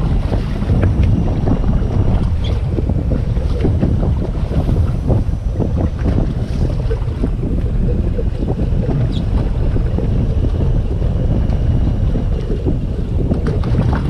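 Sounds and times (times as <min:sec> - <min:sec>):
water rushing: 0:00.0 - 0:14.0
wind buffeting microphone: 0:00.0 - 0:14.0.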